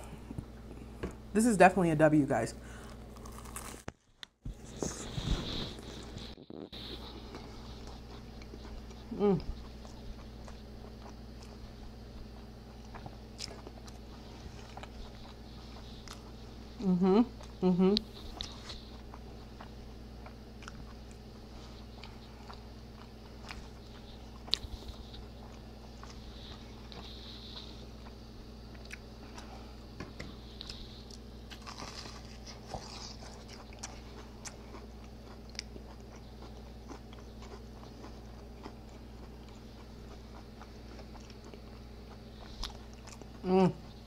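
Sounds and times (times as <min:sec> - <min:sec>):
chewing crunchy food: 0:02.8 - 0:44.0.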